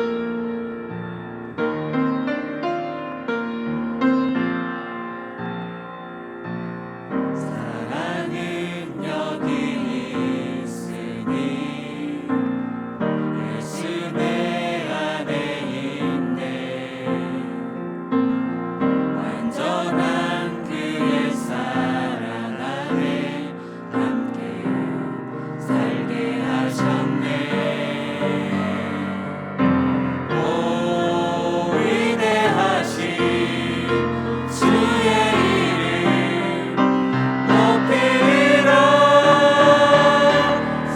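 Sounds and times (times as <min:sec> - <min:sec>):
keyboard accompaniment: 0:00.0 - 0:40.9
choir singing: 0:07.1 - 0:40.9.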